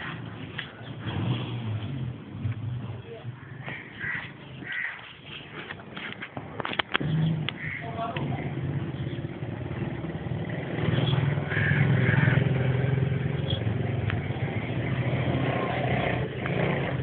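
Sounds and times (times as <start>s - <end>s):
motor engine rumbling: 0.0s - 17.0s.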